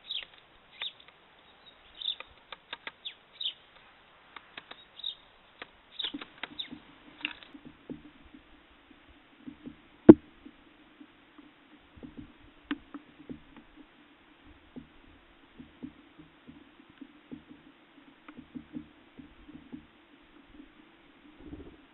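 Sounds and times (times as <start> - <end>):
woodpecker pecking: 0.0 - 21.9.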